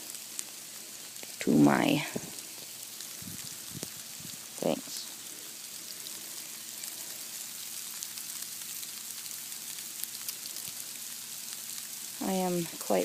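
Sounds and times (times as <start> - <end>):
hail and snow hitting jacket: 0.0 - 13.0.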